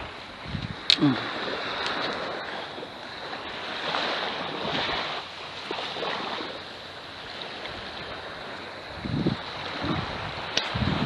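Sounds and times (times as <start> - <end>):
wind on microphone: 0.0 - 6.6, 7.2 - 11.0
surf washing on beach: 0.0 - 11.0.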